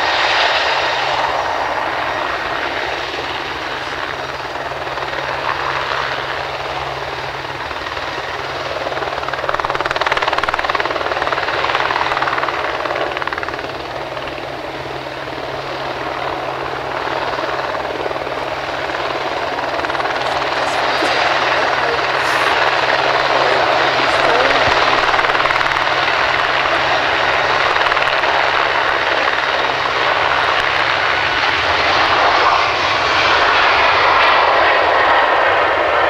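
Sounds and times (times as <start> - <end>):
helicopter hovering: 0.0 - 36.0.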